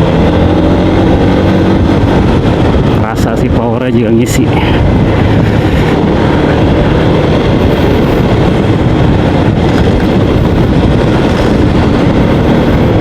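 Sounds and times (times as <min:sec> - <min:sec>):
scooter engine running: 0:00.0 - 0:03.0, 0:04.7 - 0:13.0
riding noise rush: 0:00.0 - 0:13.0.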